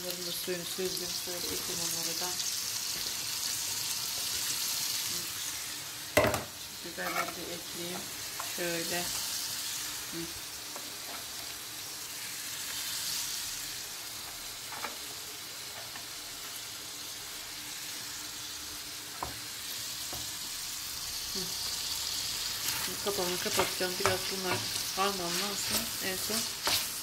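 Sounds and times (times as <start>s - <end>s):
vegetables sizzling in frying pan: 0.0s - 27.0s.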